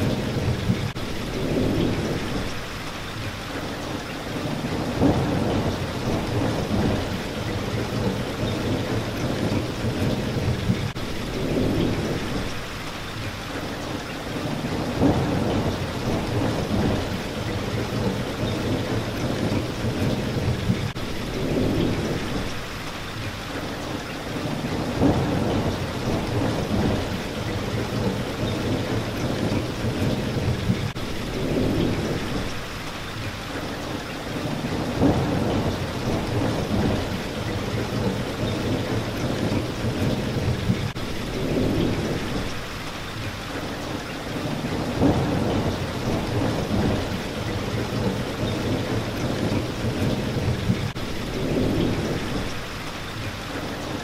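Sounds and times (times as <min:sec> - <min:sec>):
thunder rumbling: 0:00.0 - 0:02.8, 0:04.3 - 0:12.7, 0:14.4 - 0:22.7, 0:24.4 - 0:32.8, 0:34.3 - 0:42.8, 0:44.3 - 0:52.8
rain hitting a window: 0:00.0 - 0:54.0.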